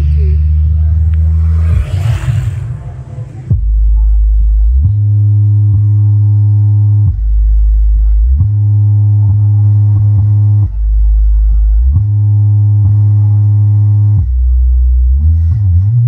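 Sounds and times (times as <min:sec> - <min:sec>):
subwoofer bass test tone: 0:00.0 - 0:16.0.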